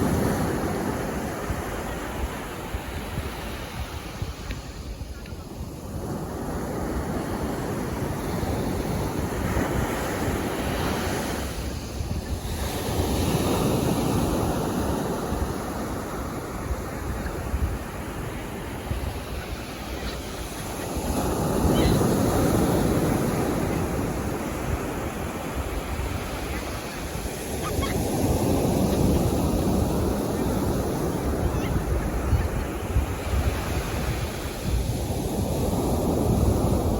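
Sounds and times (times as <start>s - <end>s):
sea waves washing onto beach: 0.0s - 36.9s
wind rumbling on microphone: 0.0s - 36.9s.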